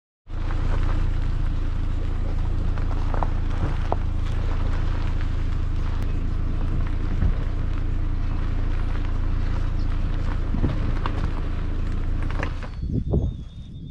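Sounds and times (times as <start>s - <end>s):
car driving on gravel: 0.3s - 13.9s.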